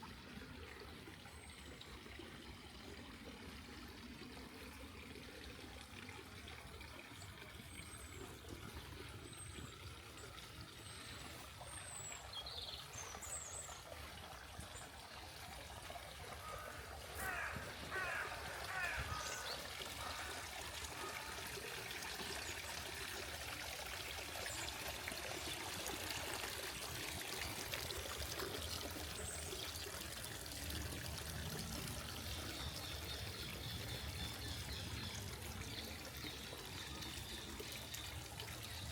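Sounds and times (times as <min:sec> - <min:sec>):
waterfall trickling and splashing: 0:00.0 - 0:38.9.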